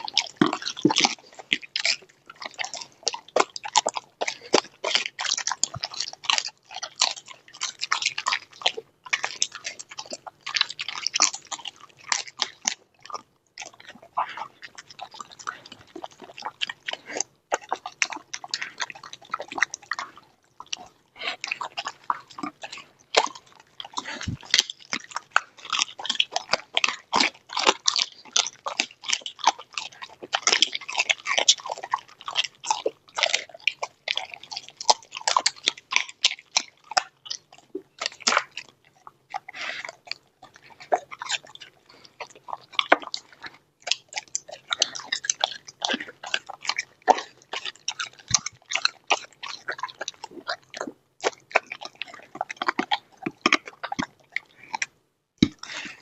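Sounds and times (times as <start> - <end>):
dog chewing and crunching bones: 0.0 - 56.0.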